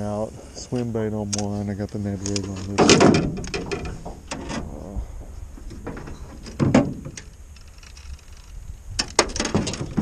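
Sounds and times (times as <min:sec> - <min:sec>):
fishing gear clicks and knocks: 0:00.8 - 0:04.6, 0:05.7 - 0:10.0.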